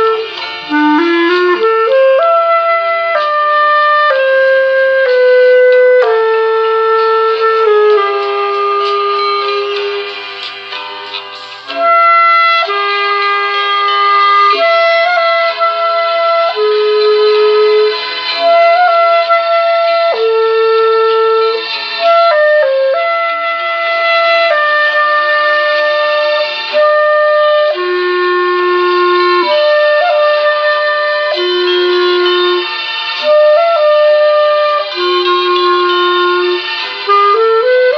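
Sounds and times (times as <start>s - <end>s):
clarinet playing slow melody: 0.0s - 37.9s.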